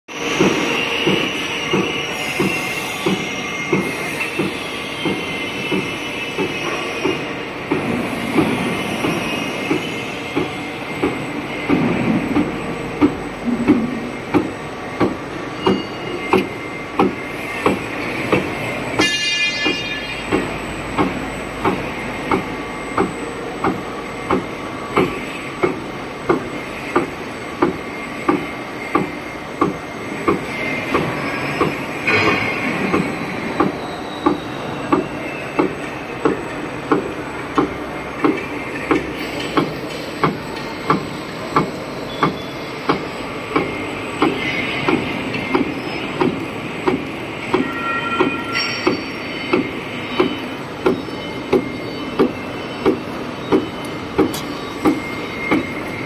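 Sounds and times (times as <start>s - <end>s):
machine running noise: 0.1s - 56.0s.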